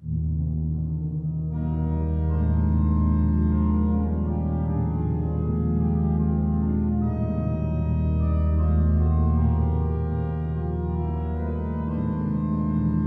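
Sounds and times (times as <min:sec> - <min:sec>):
pipe organ chords: 0:00.0 - 0:13.0.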